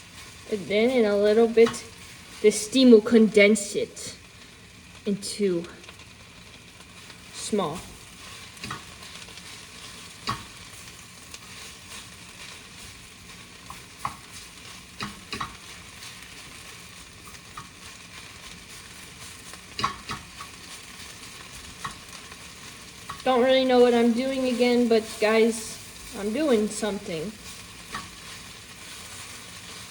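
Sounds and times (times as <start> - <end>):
vegetables sizzling in a frying pan: 0.0 - 29.9.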